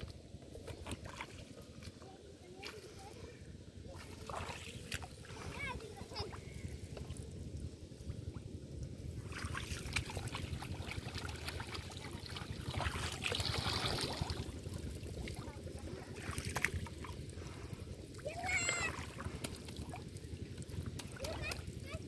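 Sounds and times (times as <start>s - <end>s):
rush of water: 0.0s - 22.0s
water splashing and trickling: 0.0s - 22.0s.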